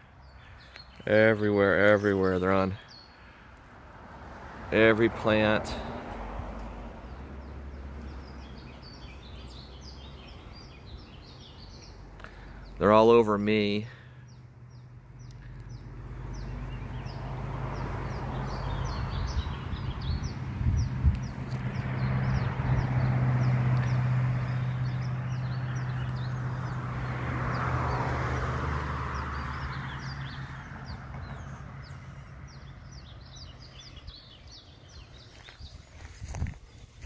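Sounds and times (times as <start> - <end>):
small birds chirping: 0.0 - 3.8, 4.8 - 37.0.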